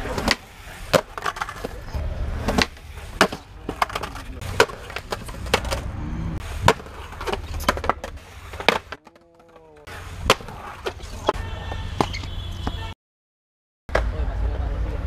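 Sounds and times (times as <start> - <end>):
skateboard deck clacking: 0.0 - 5.9, 6.5 - 12.8
skateboard wheels rolling on concrete: 0.0 - 12.9.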